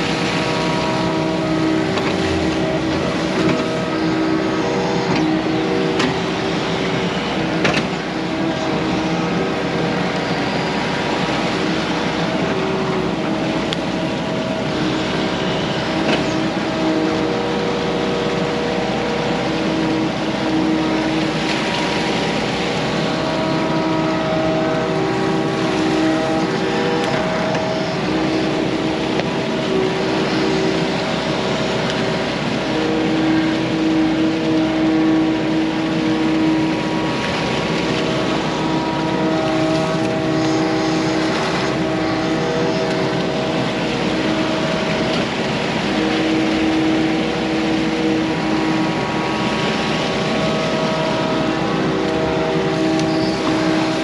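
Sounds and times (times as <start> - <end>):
excavator diesel engine working: 0.0 - 54.0.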